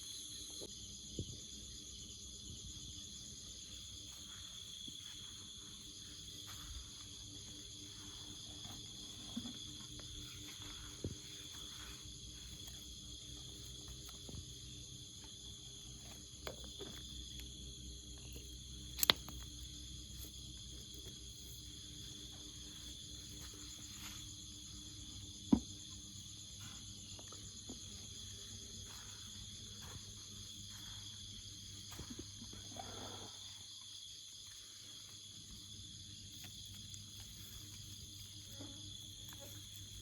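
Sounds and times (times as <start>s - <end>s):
chorus of jungle insects: 0.0s - 40.0s.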